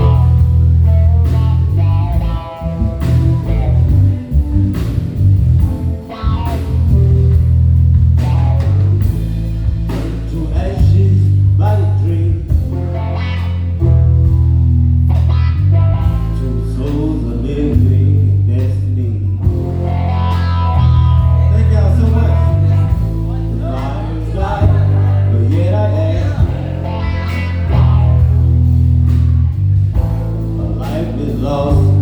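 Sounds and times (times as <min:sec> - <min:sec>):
electric bass notes: 0:00.0 - 0:32.0.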